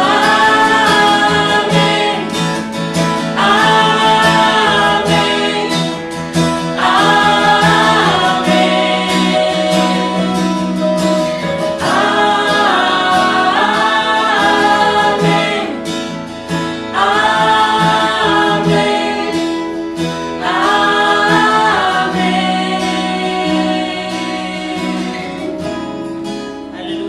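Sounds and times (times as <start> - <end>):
women singing together: 0.0 - 11.0, 11.7 - 25.7
strummed acoustic guitar: 0.0 - 27.0.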